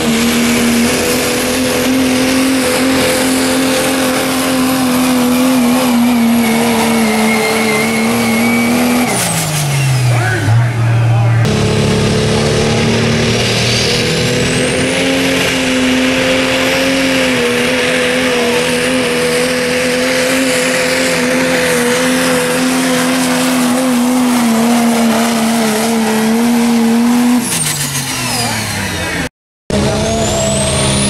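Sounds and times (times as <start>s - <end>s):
diesel engine at full throttle: 0.0s - 31.0s.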